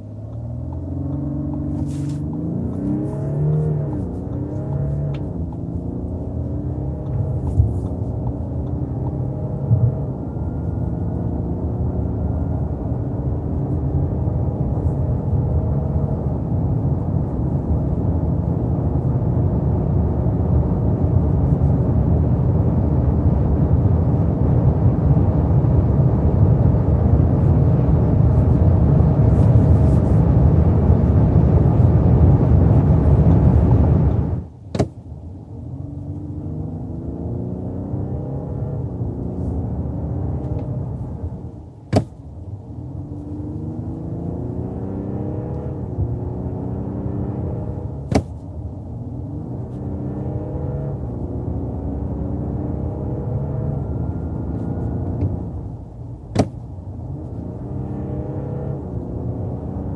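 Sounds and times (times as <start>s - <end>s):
car engine at full throttle: 0.0s - 59.9s
road and wind noise: 0.0s - 59.9s.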